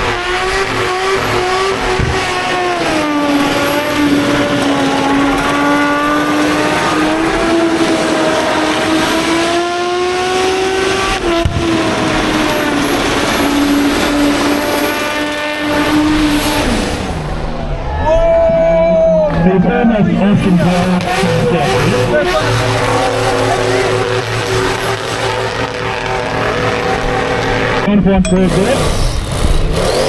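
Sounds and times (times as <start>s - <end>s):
car engine at high revs: 0.0s - 17.7s, 19.4s - 30.0s.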